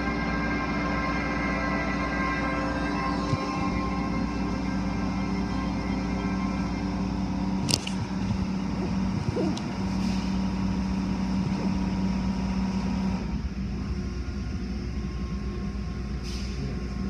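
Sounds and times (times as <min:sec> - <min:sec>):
car wash machine hum: 0:00.0 - 0:16.2.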